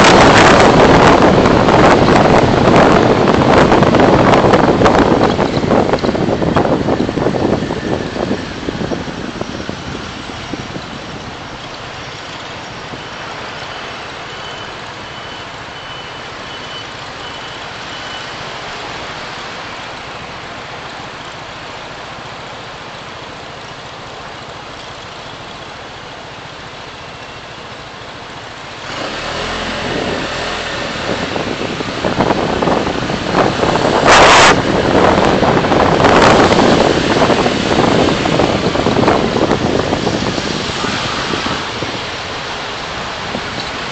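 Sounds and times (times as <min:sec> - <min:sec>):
tyres and engine rushing: 0:00.0 - 0:43.9.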